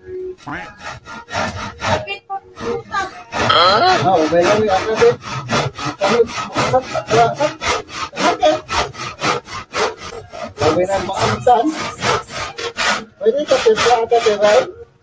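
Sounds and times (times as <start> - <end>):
handsaw cutting wood: 0.4 - 15.0.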